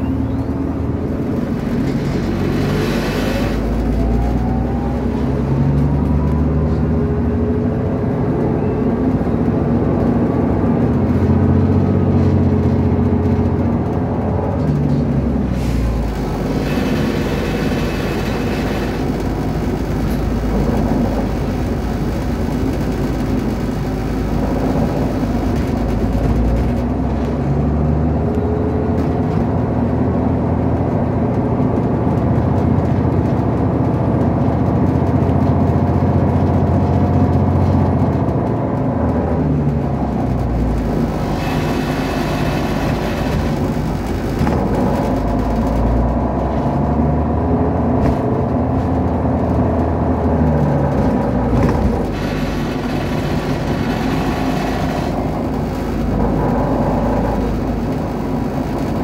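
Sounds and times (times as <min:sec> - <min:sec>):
bus engine from inside cabin: 0:00.0 - 0:59.0.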